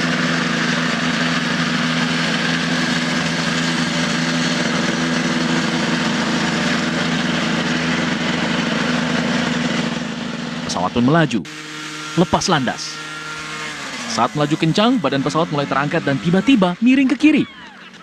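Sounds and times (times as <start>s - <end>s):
aircraft engine running steadily: 0.0s - 18.0s.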